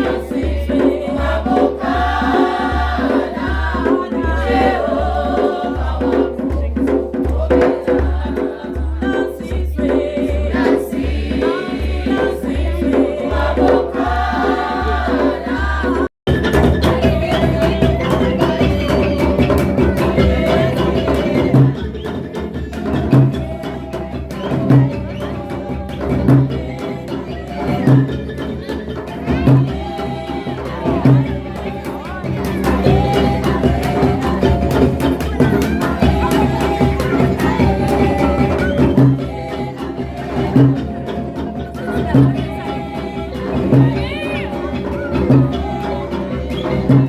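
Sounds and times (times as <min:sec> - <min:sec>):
group singing: 0:00.0 - 0:47.0
steady drum beat: 0:00.0 - 0:47.0.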